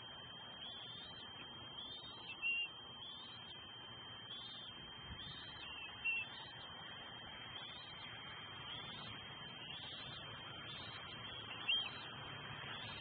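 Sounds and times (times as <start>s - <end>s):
eaglets peeping: 0.0s - 13.0s
steady high whine: 0.0s - 13.0s.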